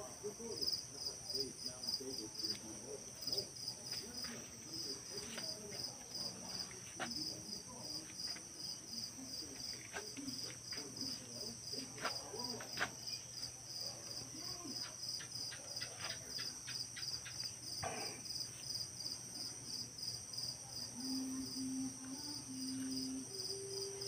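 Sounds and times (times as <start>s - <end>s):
crickets chirping: 0.0s - 24.0s
high insect trill: 0.2s - 24.0s.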